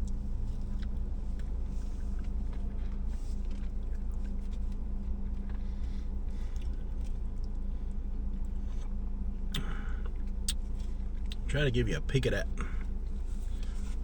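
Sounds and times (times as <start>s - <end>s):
car cabin engine hum: 0.0s - 14.0s.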